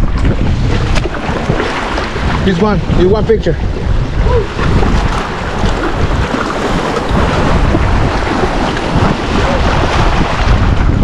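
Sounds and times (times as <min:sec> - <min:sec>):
sea wash: 0:00.0 - 0:11.0
wind buffeting microphone: 0:00.0 - 0:11.0.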